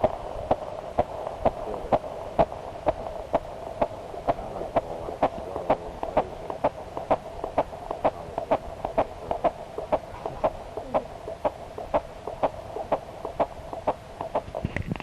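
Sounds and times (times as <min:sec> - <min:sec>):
fetal heartbeat on doppler monitor: 0:00.0 - 0:15.0
steady electronic hum: 0:00.0 - 0:15.0.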